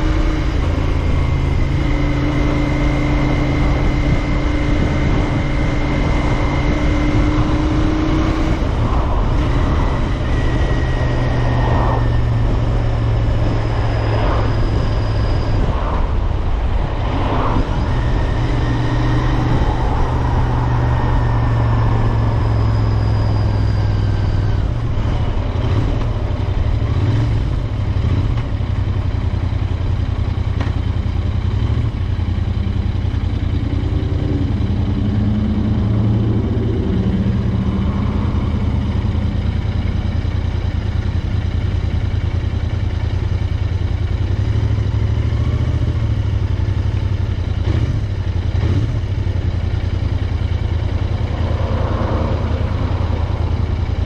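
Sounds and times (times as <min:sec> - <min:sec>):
motorcycle exhaust rumble: 0:00.0 - 0:54.0.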